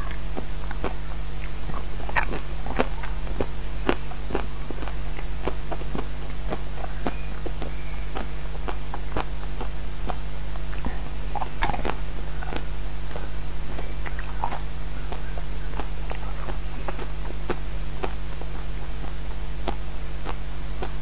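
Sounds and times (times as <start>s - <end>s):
crunching frozen ice cream bar: 0.0s - 21.0s
steady low hum: 0.0s - 21.0s.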